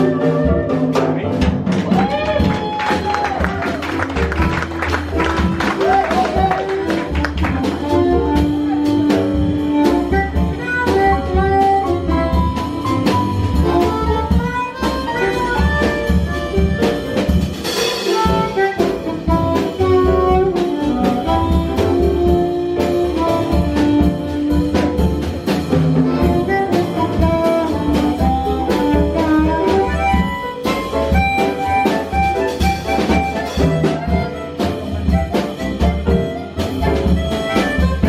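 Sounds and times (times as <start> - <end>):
saxophone melody: 0.0 - 1.0, 3.3 - 38.0
bass: 0.0 - 38.0
drum kit: 0.0 - 38.0.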